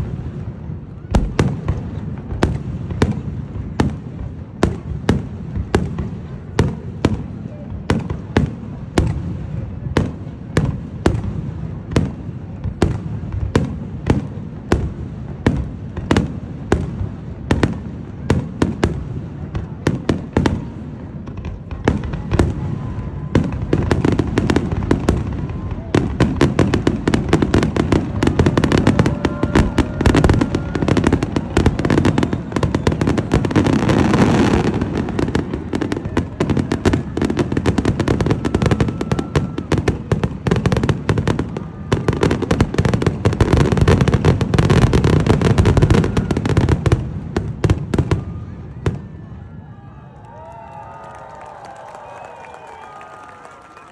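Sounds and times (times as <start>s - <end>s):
fireworks bangs and crackle: 0.0s - 53.9s.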